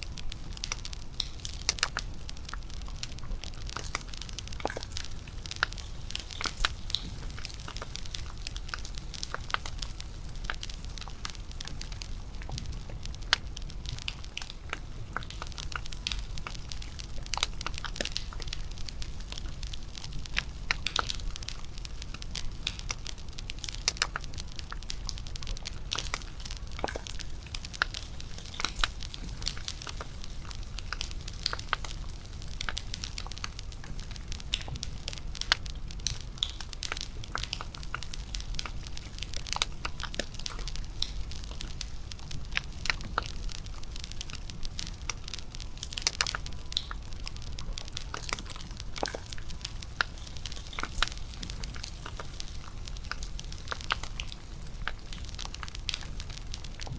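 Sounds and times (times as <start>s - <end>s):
bonfire crackling and snapping: 0.0s - 56.9s.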